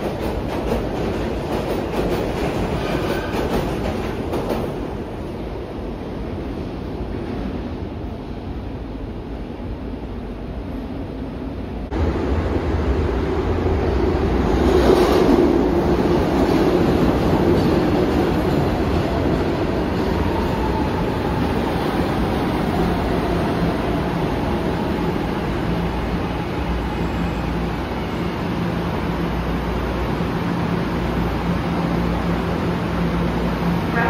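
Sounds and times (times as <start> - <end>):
subway train rumbling on rails: 0.0 - 34.0.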